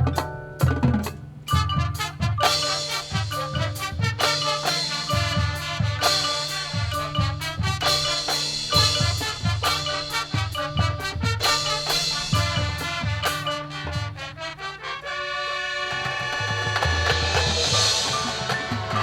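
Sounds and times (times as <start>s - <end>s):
mallet percussion: 0.0s - 14.7s, 16.1s - 19.0s
brass and woodwinds: 1.5s - 19.0s.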